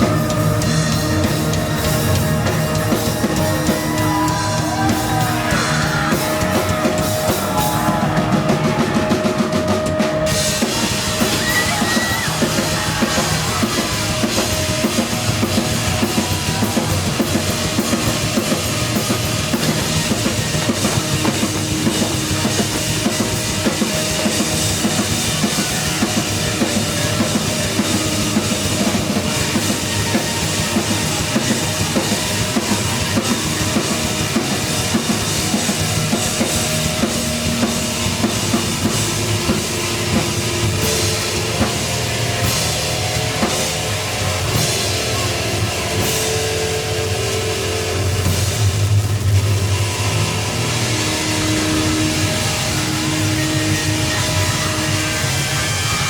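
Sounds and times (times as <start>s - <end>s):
drum kit fast beat: 0.0s - 56.0s
heavy rock band playing: 0.0s - 56.0s.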